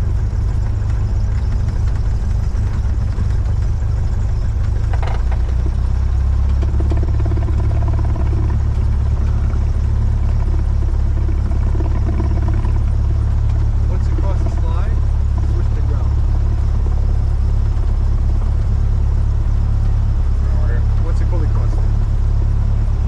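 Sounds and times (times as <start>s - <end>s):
light aircraft engine drone: 0.0s - 23.0s.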